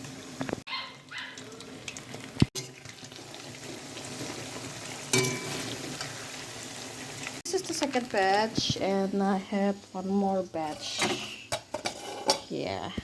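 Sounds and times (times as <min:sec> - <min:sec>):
chicken deep-frying in oil: 0:00.0 - 0:10.8.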